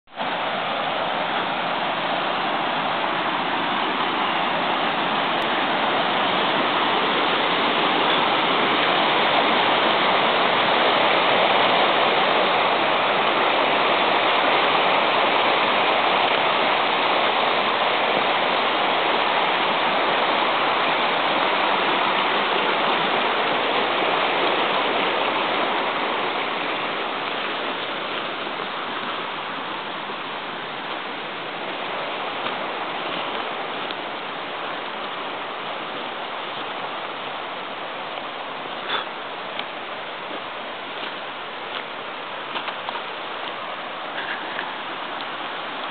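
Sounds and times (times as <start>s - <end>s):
river water rushing: 0.1s - 45.9s.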